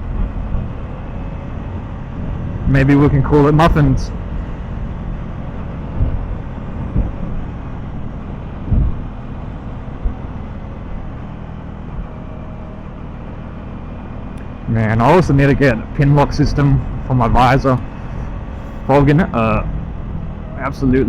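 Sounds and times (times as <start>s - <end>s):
gusty wind thumps: 0.0s - 21.0s
motorcycle engine drone: 0.0s - 21.0s
rushing wind noise: 0.0s - 21.0s.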